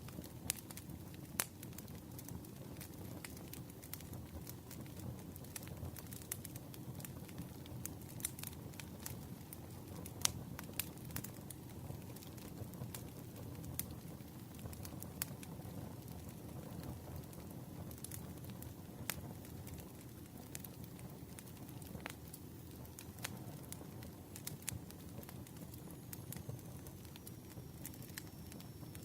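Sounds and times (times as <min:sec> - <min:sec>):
burning wood popping: 0:00.0 - 0:29.0
campfire crackling: 0:00.0 - 0:29.0.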